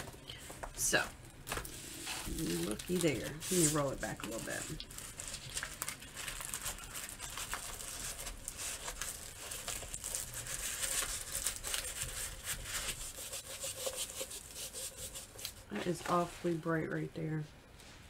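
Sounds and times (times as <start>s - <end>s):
plastic film crinkling: 0.0s - 16.3s.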